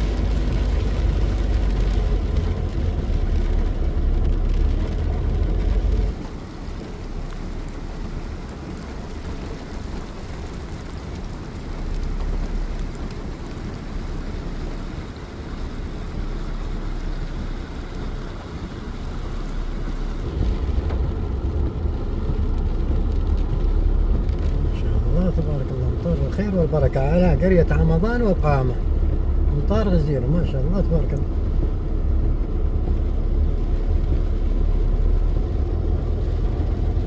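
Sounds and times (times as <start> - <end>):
car running with tyre noise: 0.0 - 37.0
heavy rain: 0.0 - 37.0
low rumble: 0.0 - 37.0.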